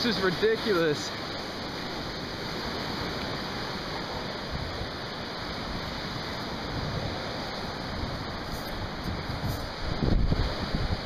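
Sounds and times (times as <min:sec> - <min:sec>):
surf washing ashore: 0:00.0 - 0:11.0
wind on the microphone: 0:00.8 - 0:11.0.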